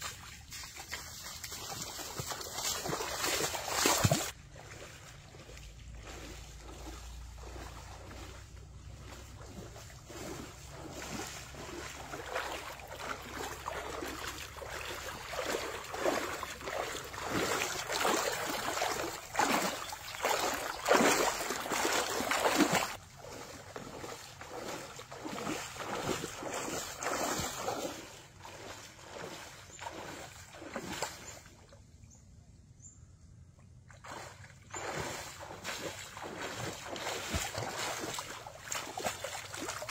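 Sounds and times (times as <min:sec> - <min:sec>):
person wading through water: 0:00.0 - 0:31.8, 0:33.7 - 0:39.9.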